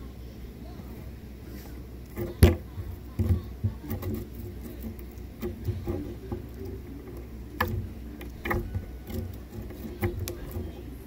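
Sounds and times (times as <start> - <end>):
low handling rumble: 0.0 - 11.0.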